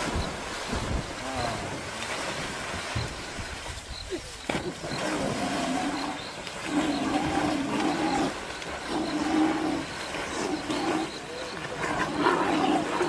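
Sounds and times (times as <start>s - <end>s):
drawn-out low calls: 0.0s - 13.0s
water churning and splashing: 0.0s - 13.0s.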